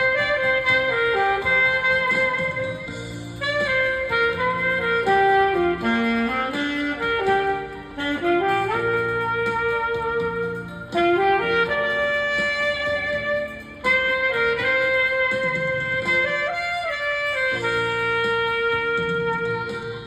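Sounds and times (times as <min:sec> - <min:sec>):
saxophone slow melody: 0:00.0 - 0:20.0.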